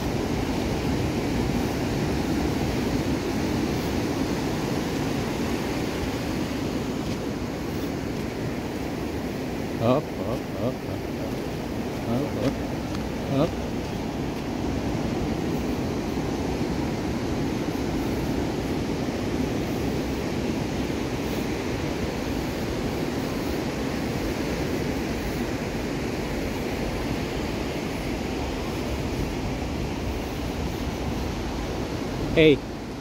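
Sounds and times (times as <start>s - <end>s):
ocean surf breaking: 0.0s - 33.0s
wind rumbling on microphone: 0.0s - 33.0s.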